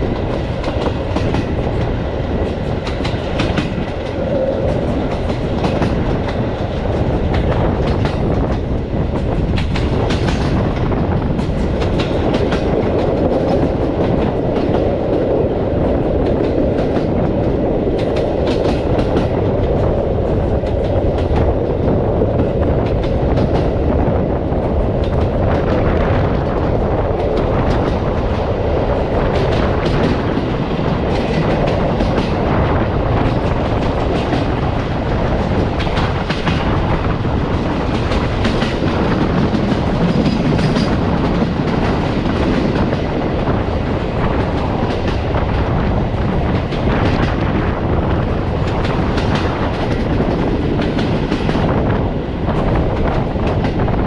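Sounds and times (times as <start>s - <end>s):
wheels clicking over rail joints: 0.0s - 23.9s, 24.7s - 45.6s
train wheels rumbling on rails: 0.0s - 54.0s.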